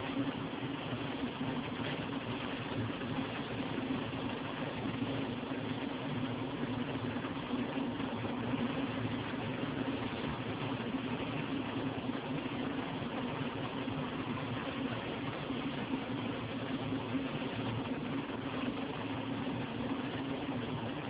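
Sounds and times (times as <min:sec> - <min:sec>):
vibrating sieve machine hum: 0:00.0 - 0:21.0.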